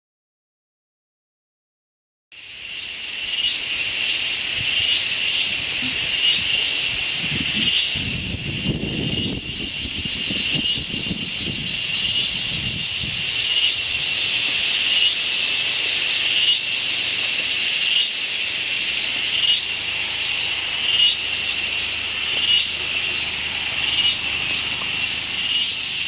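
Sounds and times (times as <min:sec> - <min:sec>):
high-pitched insect drone: 0:02.4 - 0:26.0.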